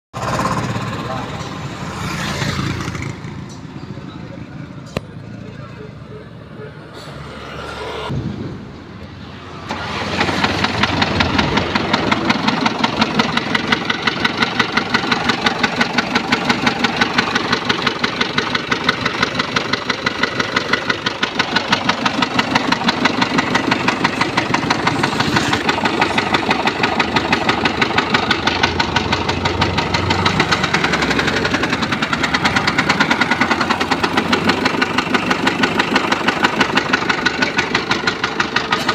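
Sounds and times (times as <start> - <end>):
car engine starting and idling: 0.2 - 38.9.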